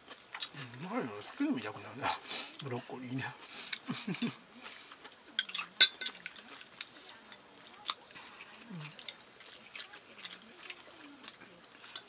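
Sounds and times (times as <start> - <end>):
chewing: 0.0 - 12.0.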